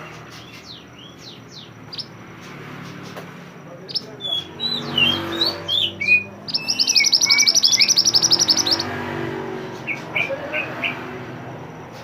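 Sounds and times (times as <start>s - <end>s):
songbird chirps and trill: 0.0s - 12.0s.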